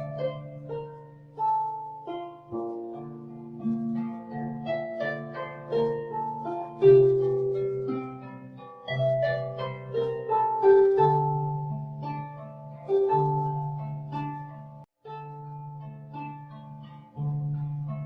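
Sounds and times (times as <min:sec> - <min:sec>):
harp music: 0:00.0 - 0:18.0.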